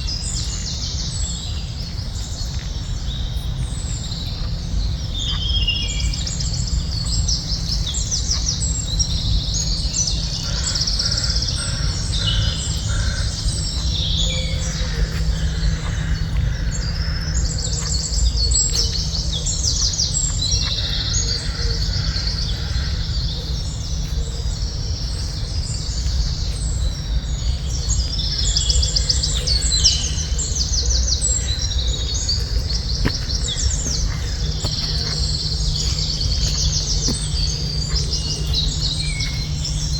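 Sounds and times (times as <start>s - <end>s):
birds chirping and singing: 0.0s - 39.9s
steady low rumble: 0.0s - 39.9s.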